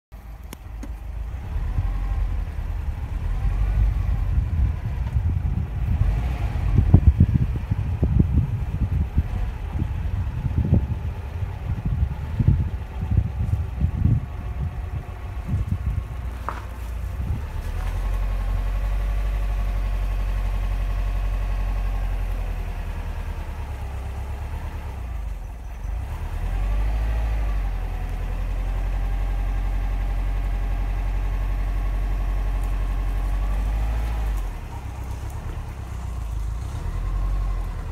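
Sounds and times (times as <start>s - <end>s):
car engine idling: 0.1s - 37.9s.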